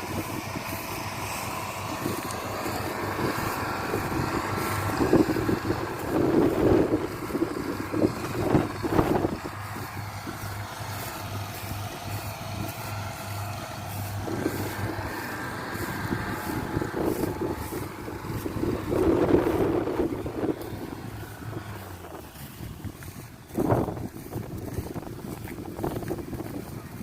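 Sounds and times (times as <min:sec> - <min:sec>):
combine harvester engine drone: 0:00.0 - 0:27.0.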